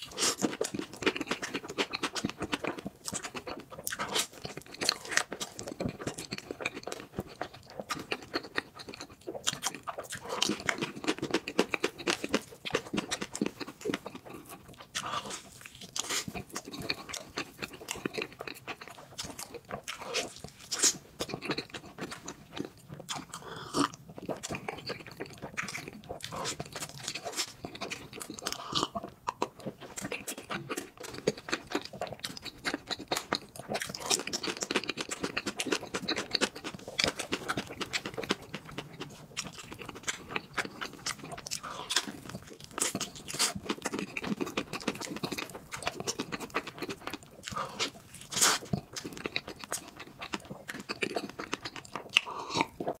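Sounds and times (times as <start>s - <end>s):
chewing and biting food: 0.0s - 53.0s.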